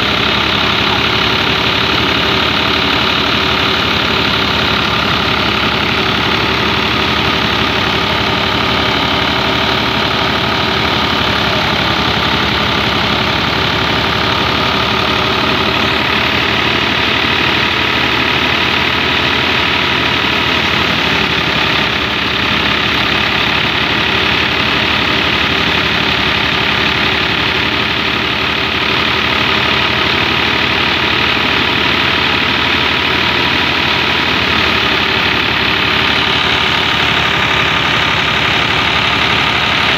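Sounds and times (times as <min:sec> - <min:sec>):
thresher whirring: 0:00.0 - 0:39.9
tractor diesel engine running: 0:00.0 - 0:39.9.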